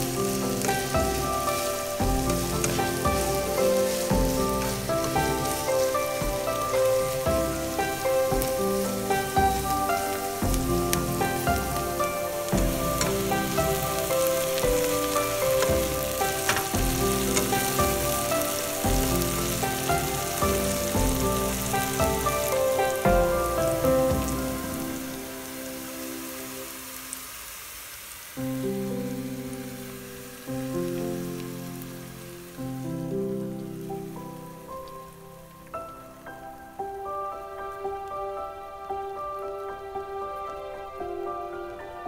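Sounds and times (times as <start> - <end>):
soft background music: 0.0 - 27.3, 28.4 - 42.0
chillies sizzling in a pan: 0.0 - 42.0.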